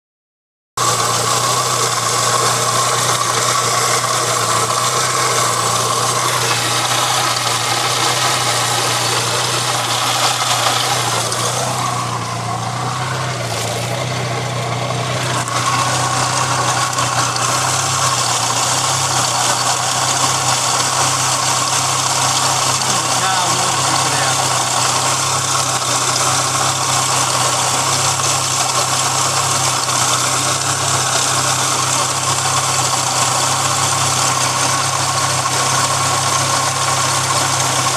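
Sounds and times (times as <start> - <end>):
car engine idling: 0.8 - 37.9.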